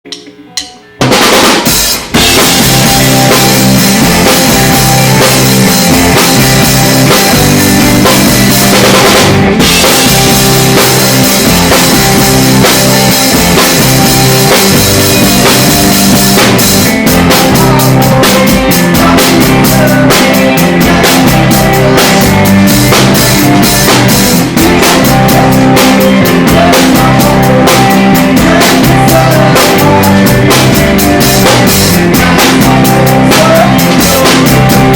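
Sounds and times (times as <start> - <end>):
drum kit beat: 0.0 - 34.9
live rock band playing: 0.4 - 34.9.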